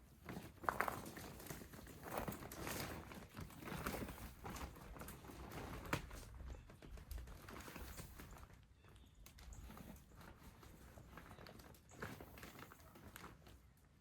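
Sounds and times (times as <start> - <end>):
plastic rustling and crinkling: 0.0 - 14.0.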